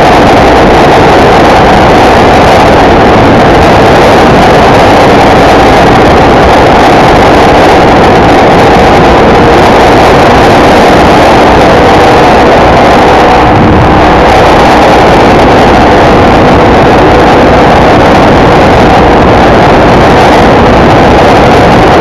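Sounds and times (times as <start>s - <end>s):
motorcycle engine drone: 0.0s - 22.0s
wind and road noise: 0.0s - 22.0s.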